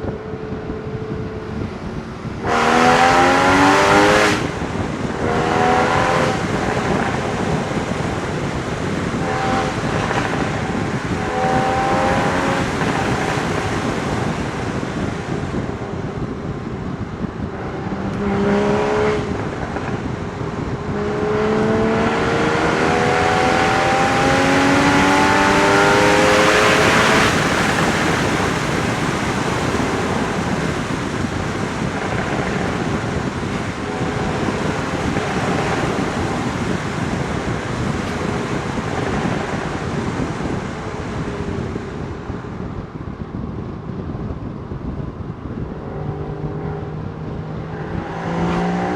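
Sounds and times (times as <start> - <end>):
car engine and exhaust accelerating: 0.0 - 48.9
road noise: 0.0 - 48.9
wind noise: 0.0 - 48.9.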